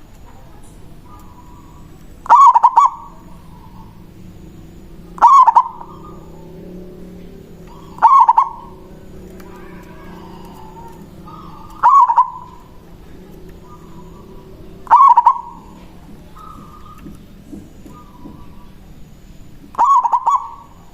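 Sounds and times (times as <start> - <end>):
dove cooing: 0.0 - 20.9
steady low hum: 0.0 - 20.9.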